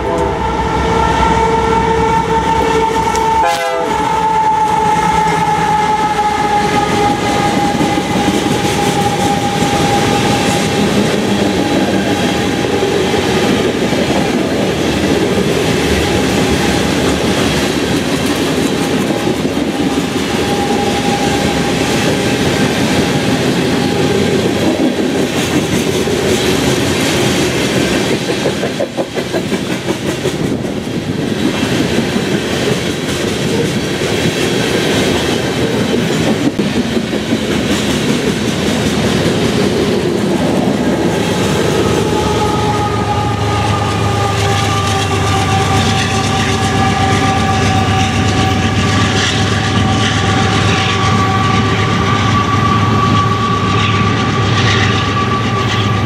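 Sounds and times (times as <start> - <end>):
train wheels rumbling on rails: 0.0 - 56.0
clickety-clack over rail joints: 6.7 - 42.0, 44.3 - 56.0.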